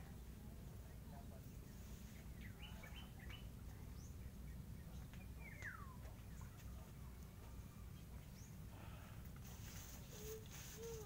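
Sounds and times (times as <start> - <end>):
faint bird chirps: 0.1 - 9.0.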